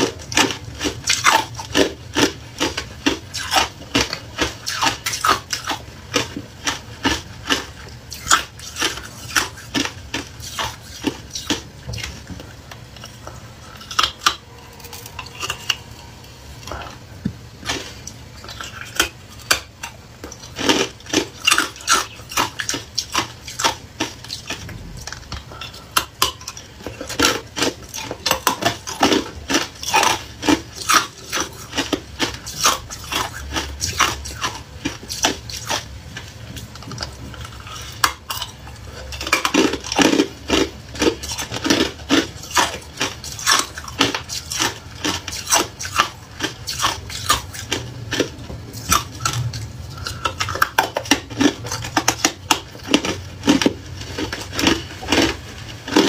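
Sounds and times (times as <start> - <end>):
ice crunching while chewed: 0.0 - 56.0.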